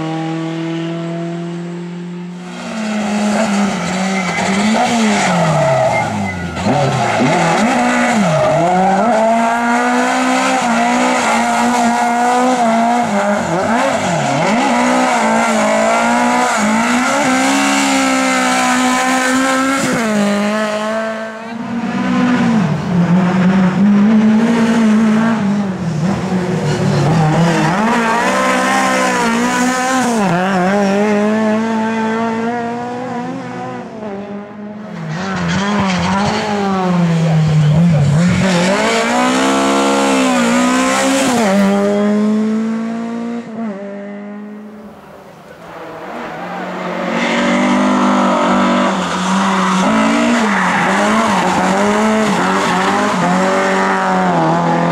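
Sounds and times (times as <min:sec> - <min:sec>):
racing car engine high revs: 0:00.0 - 0:44.9, 0:45.7 - 0:54.9.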